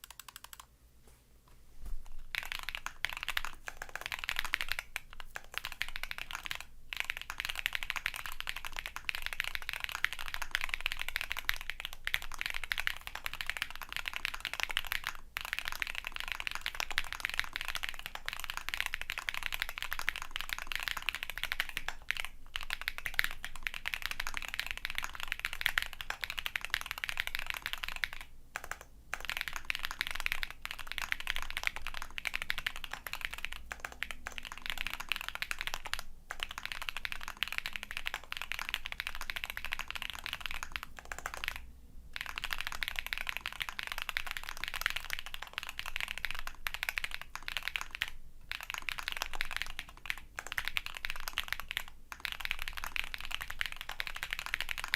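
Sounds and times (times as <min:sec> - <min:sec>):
fast mechanical keyboard typing: 0:00.0 - 0:00.7, 0:02.2 - 0:54.9.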